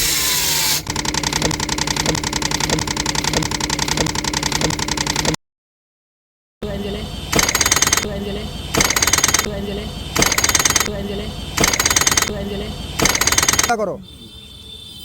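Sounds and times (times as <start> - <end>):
machine running: 0.0 - 5.4, 6.6 - 13.8.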